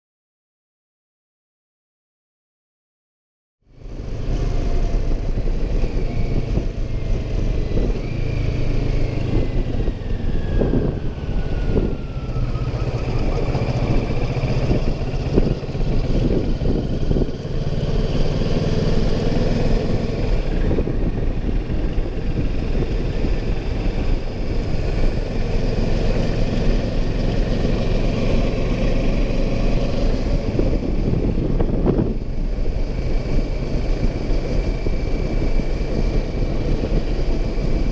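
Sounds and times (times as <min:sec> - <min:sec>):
motorcycle engine drone: 0:03.6 - 0:37.9
wind and road noise: 0:03.6 - 0:37.9
wind gusts on microphone: 0:03.8 - 0:37.9.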